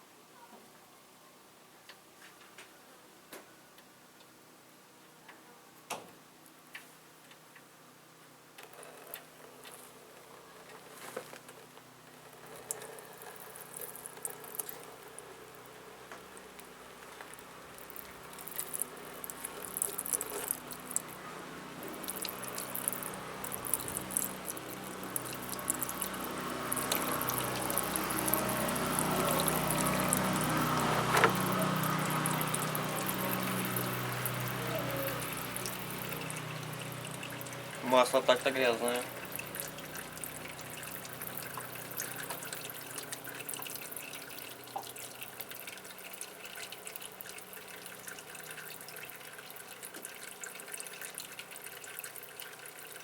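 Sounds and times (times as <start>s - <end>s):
oil draining from engine: 8.6s - 53.0s.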